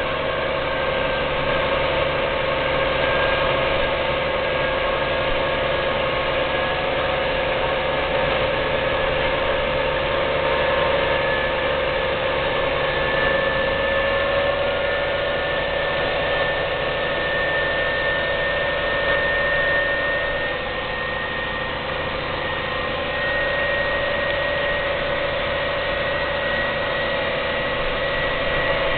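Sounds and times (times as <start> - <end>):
tractor diesel engine drone: 0.0 - 28.9.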